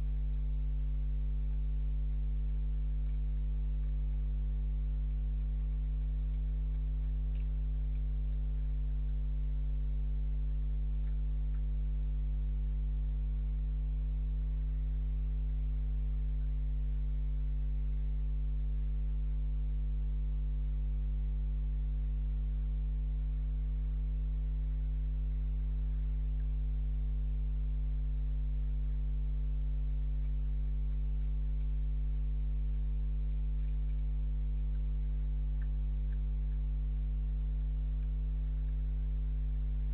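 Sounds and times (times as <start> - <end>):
electrical hum: 0.0 - 39.9
faint ticks: 0.0 - 39.9.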